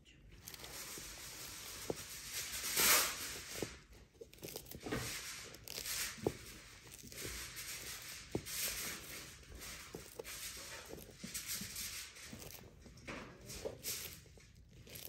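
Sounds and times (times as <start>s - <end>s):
tortoise crunching food: 0.2s - 15.0s.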